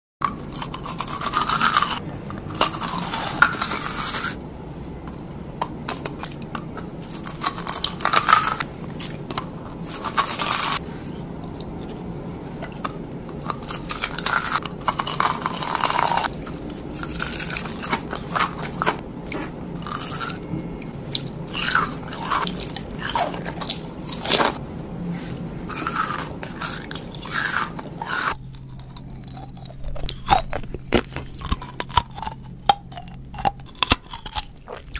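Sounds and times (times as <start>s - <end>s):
crunching hard candy: 0.2s - 4.4s, 5.6s - 10.8s, 12.7s - 24.6s, 25.7s - 34.9s.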